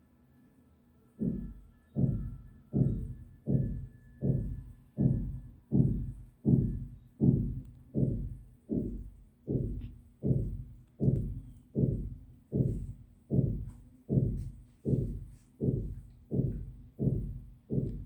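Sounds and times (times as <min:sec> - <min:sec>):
low dull thumps: 0:01.2 - 0:18.0.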